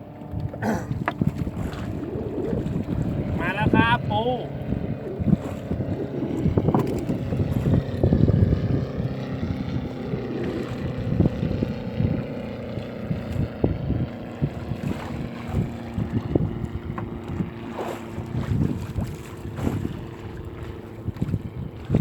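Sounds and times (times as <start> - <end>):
boat engine running: 0.0 - 22.0
wind buffeting microphone: 0.0 - 22.0.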